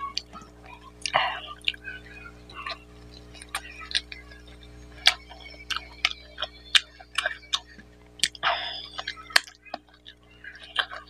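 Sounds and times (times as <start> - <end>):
lip-smacking clicks: 0.1 - 11.0.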